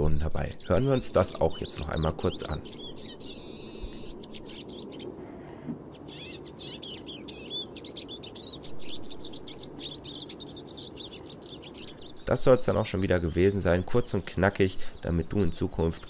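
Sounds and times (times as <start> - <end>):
songbird twittering and trilling: 0.0 - 5.1, 5.9 - 16.0.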